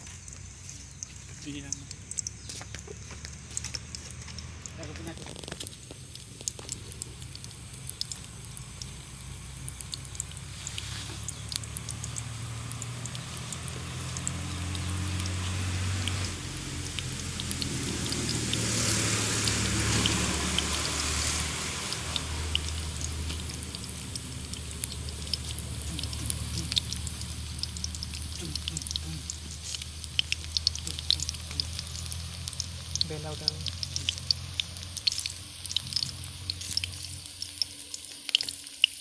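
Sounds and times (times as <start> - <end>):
wood fire crackling and popping: 0.0 - 39.0
food hissing: 5.2 - 39.0.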